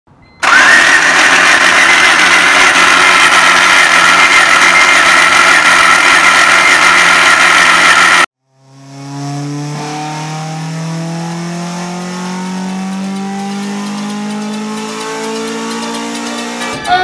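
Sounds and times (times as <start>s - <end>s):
car engine running: 0.4s - 17.0s.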